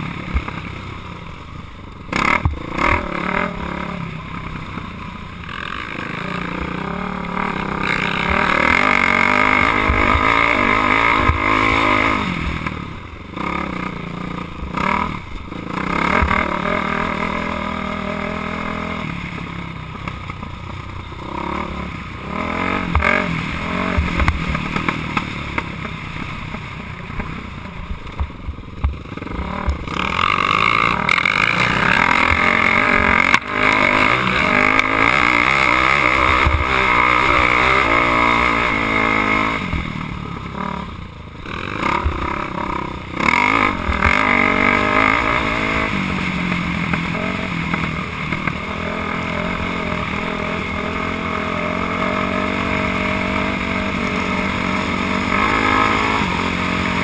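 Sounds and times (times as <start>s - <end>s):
dirt bike engine revving: 2.0s - 57.0s.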